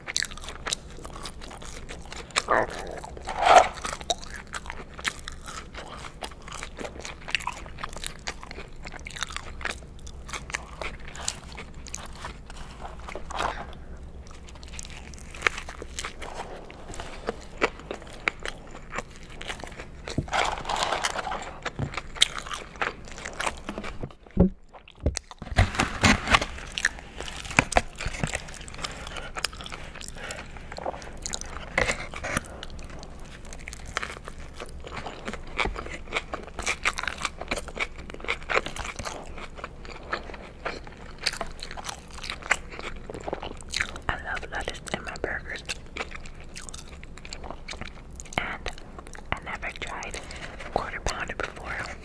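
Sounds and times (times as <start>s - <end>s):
person chewing and crunching food: 0.0s - 52.0s.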